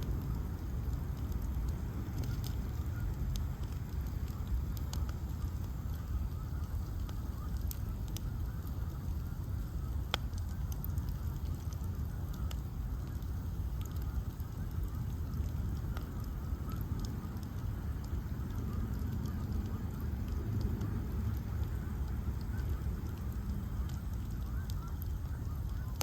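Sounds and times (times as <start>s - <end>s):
bonfire burning with low rumble: 0.0s - 26.0s
fire crackles and pops: 0.0s - 26.0s.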